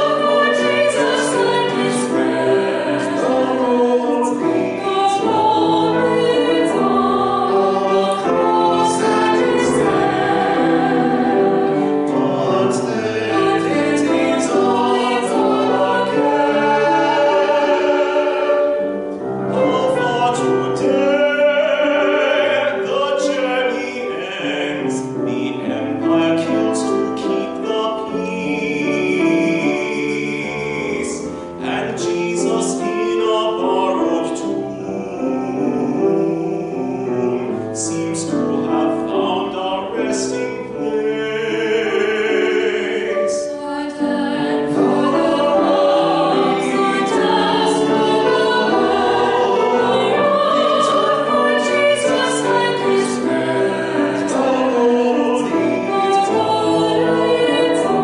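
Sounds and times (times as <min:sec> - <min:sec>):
piano: 0:00.0 - 0:58.0
vocal ensemble singing: 0:00.0 - 0:58.0.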